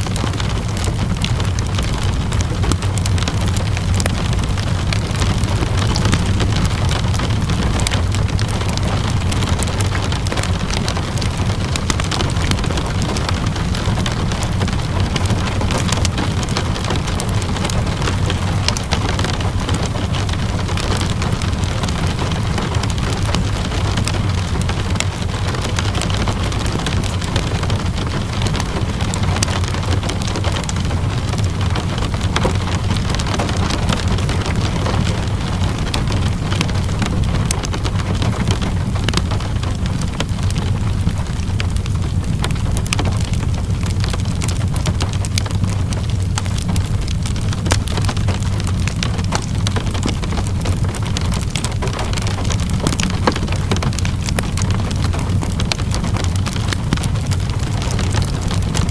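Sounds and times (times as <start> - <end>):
low rumble: 0.0 - 58.9
steady rainfall: 0.0 - 58.9
wood fire crackling: 0.0 - 58.9.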